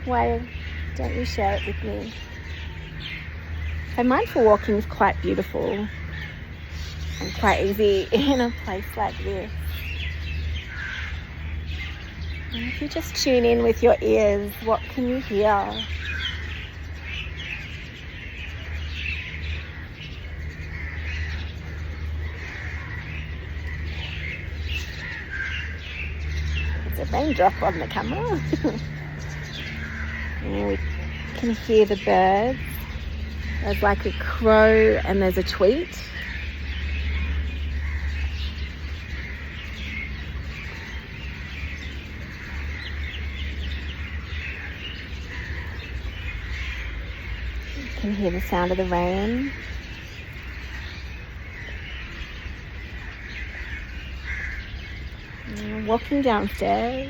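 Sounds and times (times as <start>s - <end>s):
small birds chirping: 0.0s - 57.0s
steady low rumble: 0.0s - 57.0s.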